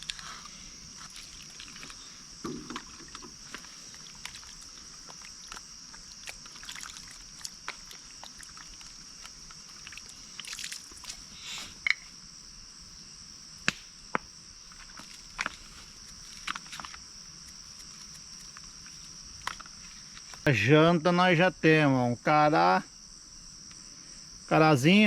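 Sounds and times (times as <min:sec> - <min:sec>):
insects chorus: 0:00.0 - 0:25.0.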